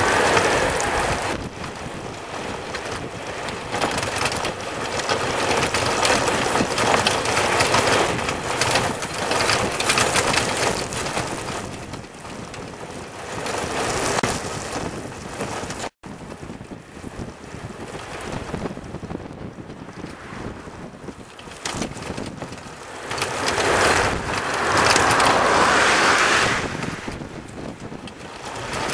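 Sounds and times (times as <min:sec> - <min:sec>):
tyre rumble on asphalt: 0:00.0 - 0:28.9
wind buffeting microphone: 0:00.0 - 0:28.9.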